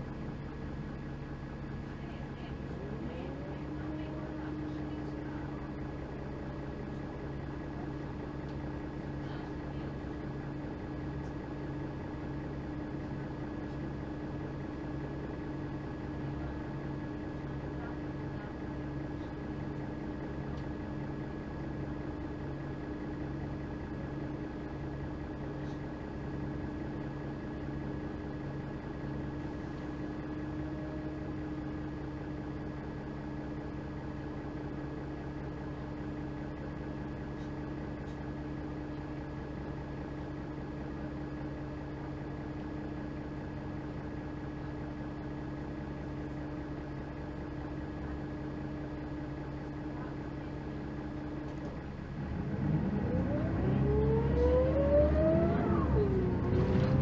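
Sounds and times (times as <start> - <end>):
bus diesel engine idling: 0.0 - 57.0.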